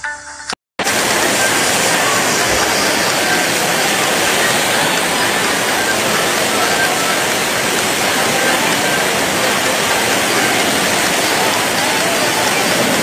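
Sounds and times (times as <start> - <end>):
loud rushing hiss: 0.8 - 13.0.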